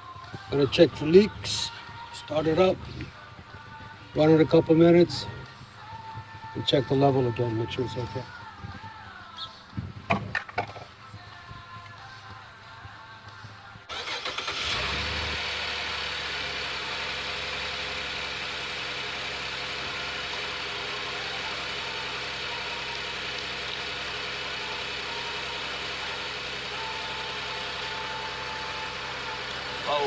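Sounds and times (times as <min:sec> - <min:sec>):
car engine starting and idling: 0:00.0 - 0:09.1, 0:13.8 - 0:30.0.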